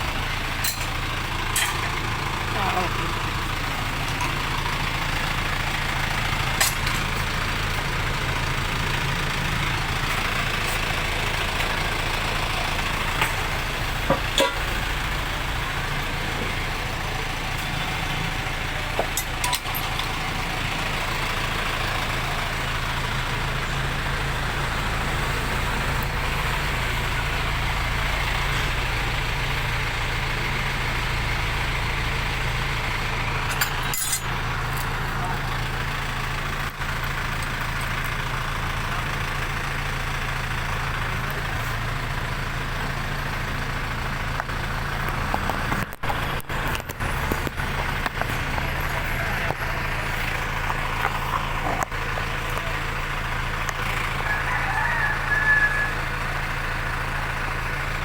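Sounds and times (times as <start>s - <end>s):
vehicle engine hum: 0.0s - 58.0s.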